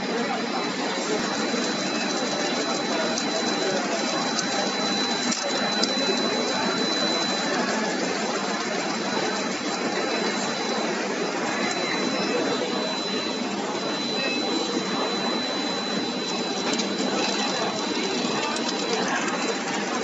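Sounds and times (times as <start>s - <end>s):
conveyor machine noise: 0.0s - 20.0s
thin high whine: 0.0s - 20.0s.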